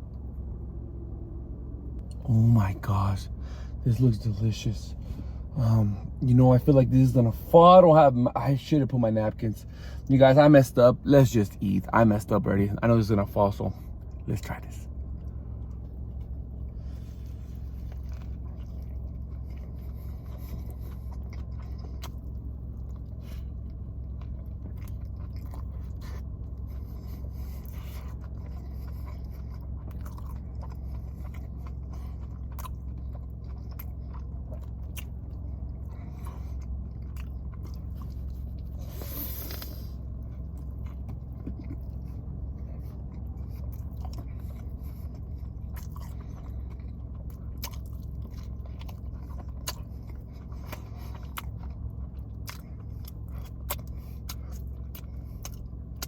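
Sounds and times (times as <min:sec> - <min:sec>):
steady low hum: 0:00.0 - 0:56.0
biting and chewing burger: 0:09.6 - 0:56.0.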